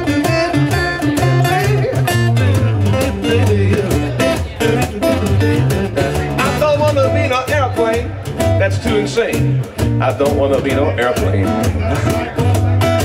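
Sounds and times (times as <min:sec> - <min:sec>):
bass notes: 0:00.0 - 0:13.0
percussion beat: 0:00.0 - 0:13.0
picked acoustic guitar: 0:00.0 - 0:13.0.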